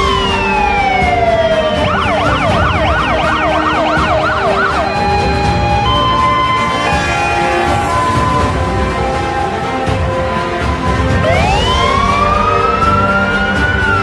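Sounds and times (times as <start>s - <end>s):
background music with held chords: 0.0s - 14.0s
fire engine siren: 0.0s - 14.0s.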